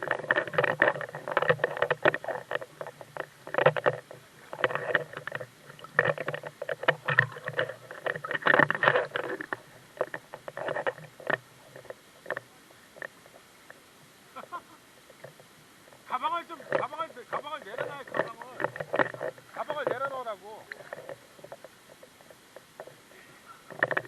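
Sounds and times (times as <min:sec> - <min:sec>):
stream water splashing: 0:00.0 - 0:24.0.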